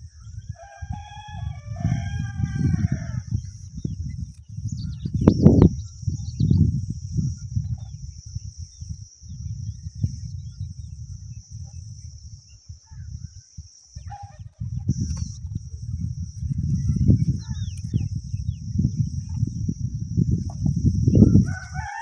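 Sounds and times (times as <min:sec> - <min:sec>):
distant bird calls: 0:00.0 - 0:19.8
wind rumbling on microphone: 0:00.0 - 0:22.0.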